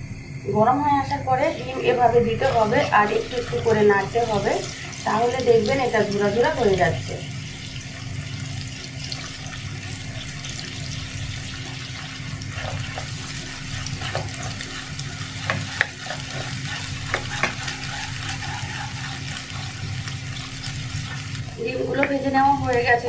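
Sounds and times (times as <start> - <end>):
egg frying in hot oil: 2.4 - 23.0.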